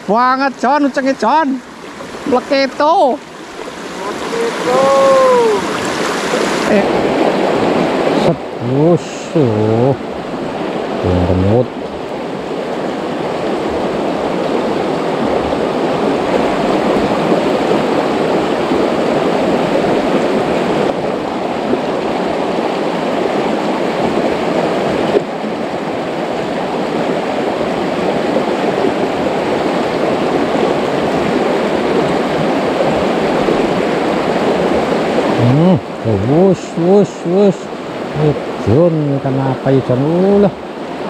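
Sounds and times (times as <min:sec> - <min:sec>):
river rushing over rapids: 0:00.0 - 0:41.0.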